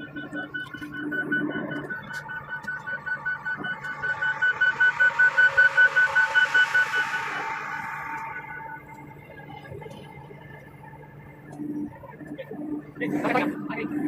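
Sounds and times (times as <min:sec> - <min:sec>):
low engine hum: 0:00.0 - 0:14.0
rapid electronic warning beeps: 0:00.0 - 0:14.0.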